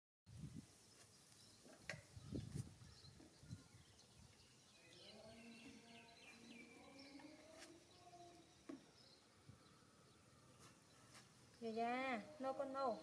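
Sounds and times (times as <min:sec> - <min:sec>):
faint chirping calls: 0:00.6 - 0:13.0.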